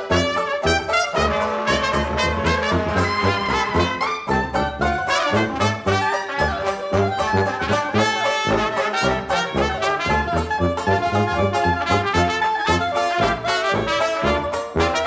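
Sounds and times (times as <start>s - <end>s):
clarinet: 0.0s - 15.0s
sousaphone bass: 0.0s - 15.0s
strummed banjo: 0.0s - 15.0s
trombone: 0.0s - 15.0s
trumpet: 0.0s - 15.0s.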